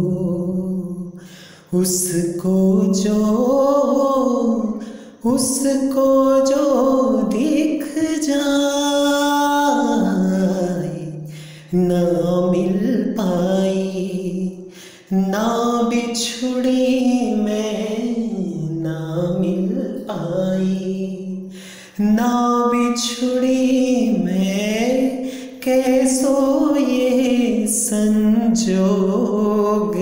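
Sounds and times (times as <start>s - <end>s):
person singing slow melody: 0.0s - 30.0s.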